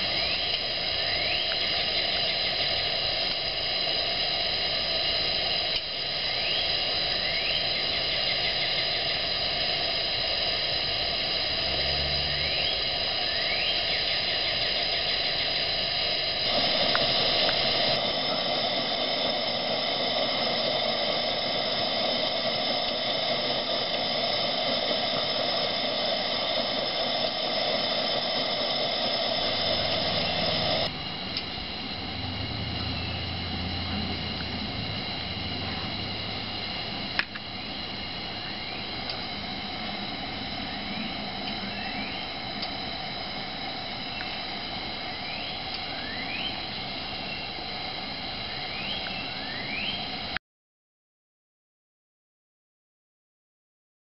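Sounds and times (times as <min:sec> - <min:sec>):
pressure lantern burner hissing: 0:00.0 - 0:50.4.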